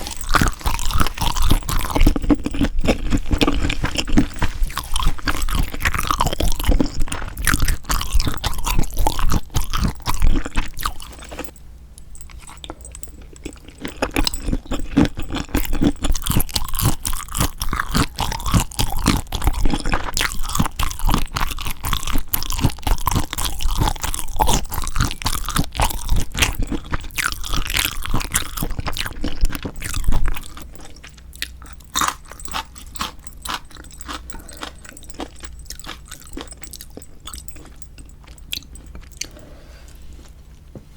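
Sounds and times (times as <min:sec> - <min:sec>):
person chewing and crunching: 0:00.0 - 0:40.6.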